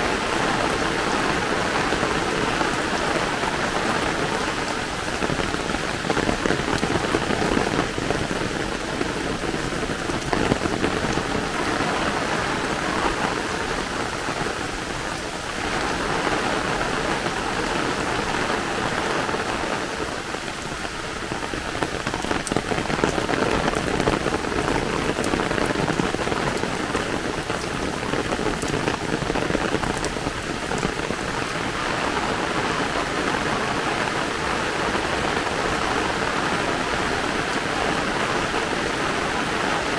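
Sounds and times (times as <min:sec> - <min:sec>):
heavy rain on pavement and leaves: 0:00.0 - 0:39.9.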